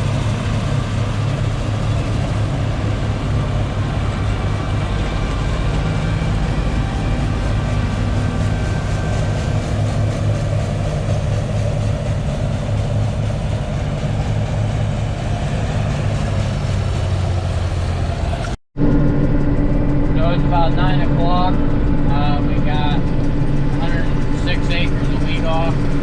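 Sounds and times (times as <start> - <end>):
combine harvester engine hum: 0.0 - 26.0.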